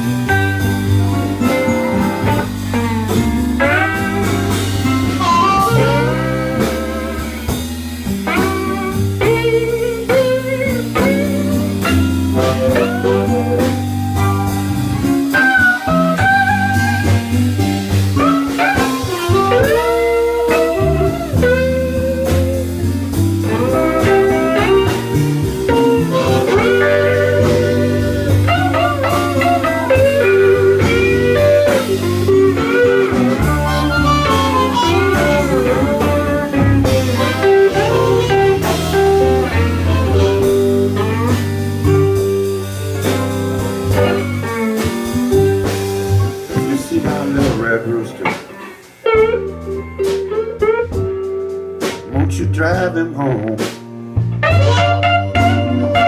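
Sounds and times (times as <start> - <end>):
lead guitar solo with bent notes: 0.0 - 52.2, 54.4 - 56.0
bass line: 0.0 - 56.0
drums: 0.0 - 56.0.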